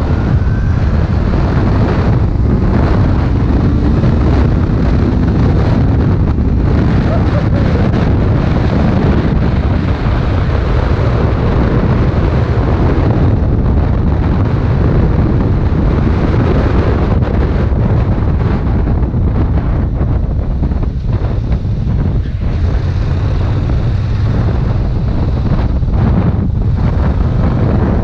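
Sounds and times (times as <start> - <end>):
motorcycle engine: 0.0 - 28.0
road noise: 0.0 - 28.0
wind rushing over microphone: 0.0 - 28.0.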